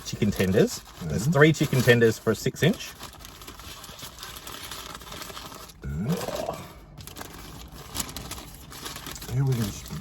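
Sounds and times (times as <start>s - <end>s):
paper wrapper crinkling: 0.0s - 10.0s.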